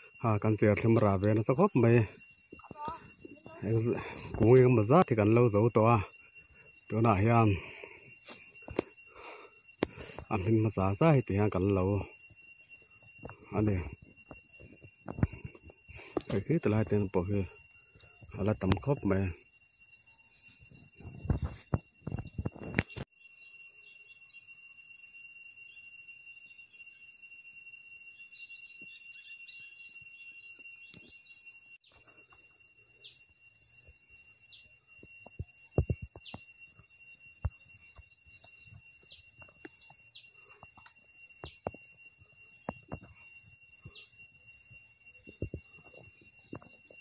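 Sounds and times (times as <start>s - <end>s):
insects droning: 0.0s - 47.0s
thin steady tone: 0.0s - 47.0s.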